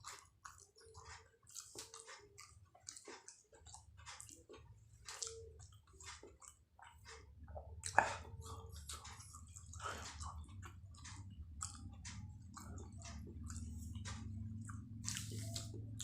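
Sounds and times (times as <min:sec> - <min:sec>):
person chewing with wet smacks: 0:00.0 - 0:16.0
steady low hum: 0:02.2 - 0:16.0.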